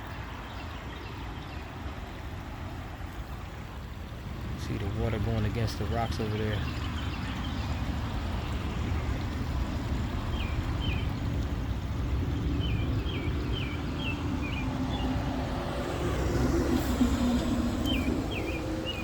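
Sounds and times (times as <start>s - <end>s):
low outdoor rumble: 1.2s - 19.0s.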